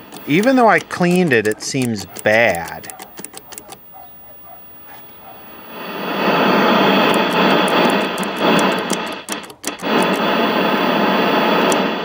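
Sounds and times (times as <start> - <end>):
tv static hiss crackling: 0.0 - 12.0.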